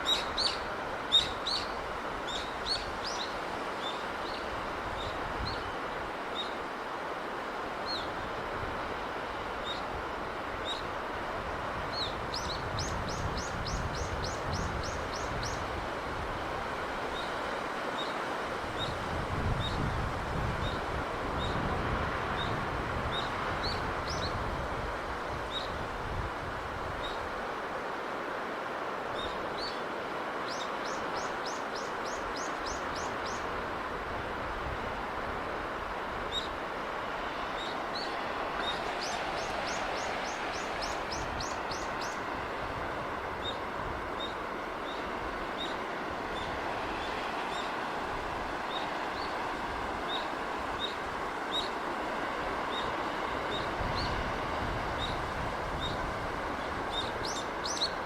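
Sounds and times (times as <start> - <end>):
sea breeze rushing: 0.0 - 58.0.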